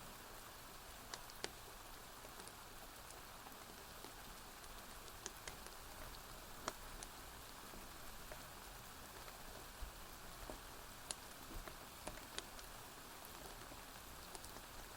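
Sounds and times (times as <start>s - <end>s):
rainfall hiss: 0.0s - 14.9s
wood fire crackles: 0.1s - 14.9s.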